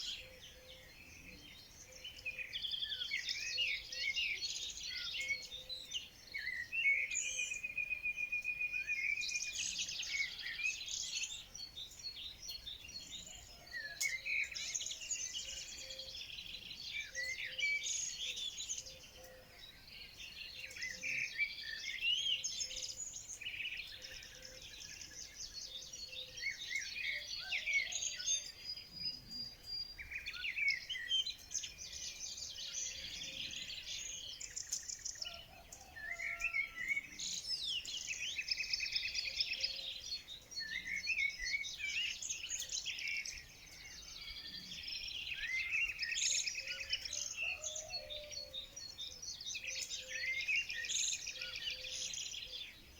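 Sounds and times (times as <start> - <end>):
songbirds singing and chirping: 0.0 - 52.9.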